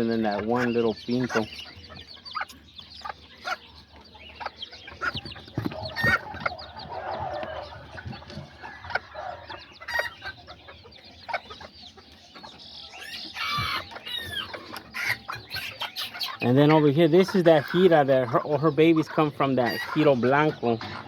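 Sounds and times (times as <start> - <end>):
chicks peeping: 0.0 - 21.0
hens clucking: 0.0 - 21.0.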